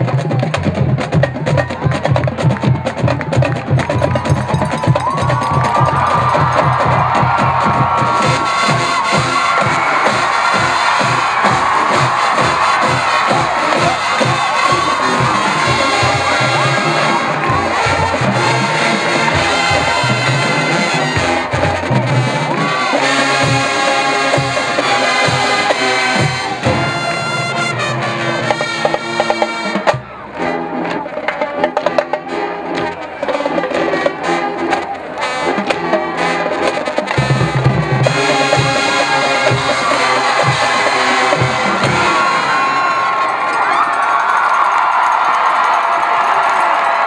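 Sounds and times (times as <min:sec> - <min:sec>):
brass instruments: 0:00.0 - 0:47.0
drums: 0:00.0 - 0:47.0
marching band playing: 0:00.0 - 0:47.0.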